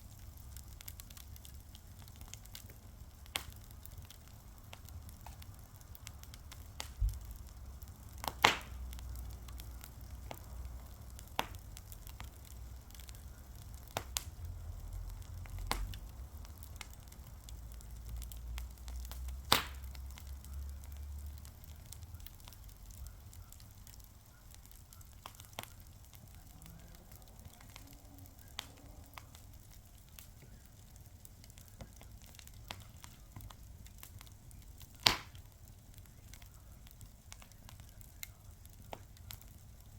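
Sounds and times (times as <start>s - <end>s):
faint fire hiss: 0.0s - 39.9s
wood fire popping and crackling: 0.0s - 39.9s.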